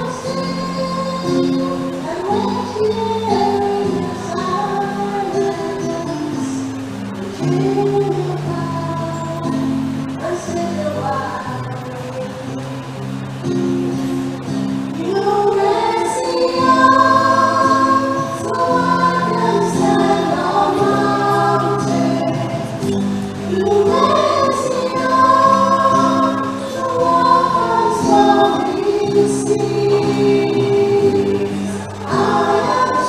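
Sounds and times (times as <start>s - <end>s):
choir singing a hymn: 0.0s - 9.6s, 14.9s - 33.0s.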